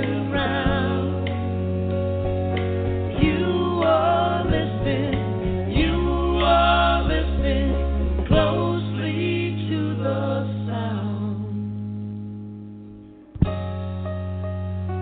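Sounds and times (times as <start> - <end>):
song with singing and band: 0.0 - 12.1
steady bass line: 0.0 - 15.0.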